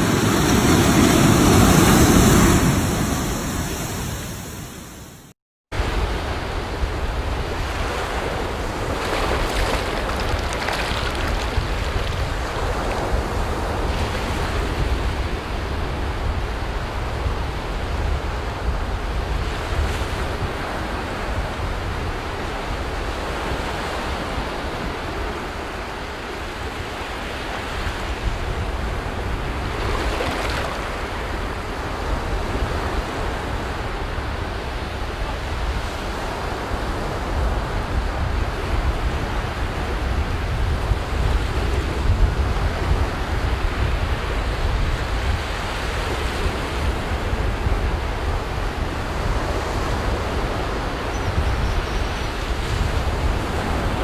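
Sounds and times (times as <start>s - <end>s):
waves breaking on shore: 0.0s - 18.8s, 19.5s - 54.0s
wind rumble on microphone: 0.0s - 54.0s.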